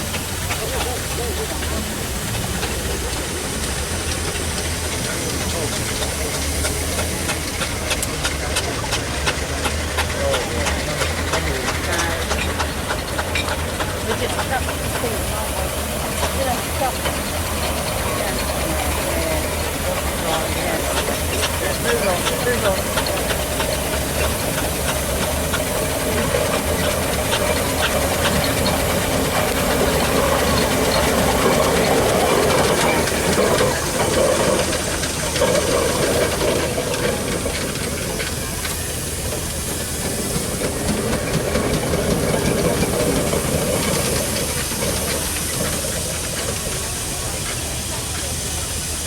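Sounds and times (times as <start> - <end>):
steam hissing: 0.0 - 49.0
steam traction engines running: 0.0 - 49.0.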